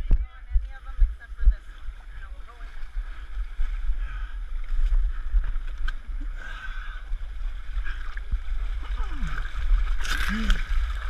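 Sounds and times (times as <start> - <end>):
muddy water sloshing: 0.0 - 11.0
wind rumble on microphone: 0.0 - 11.0.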